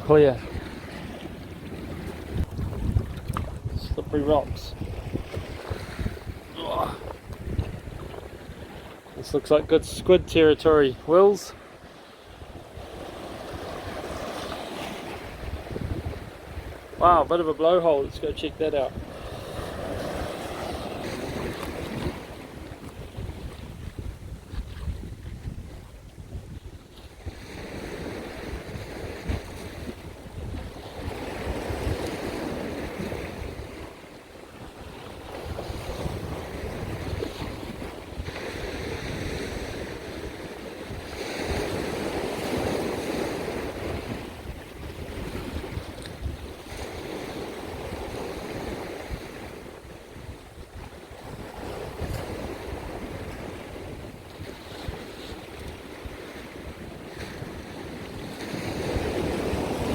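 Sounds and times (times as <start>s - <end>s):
wind buffeting microphone: 0.0s - 11.4s, 12.3s - 17.3s, 18.0s - 59.9s
sea waves surging into blowhole: 0.0s - 59.9s.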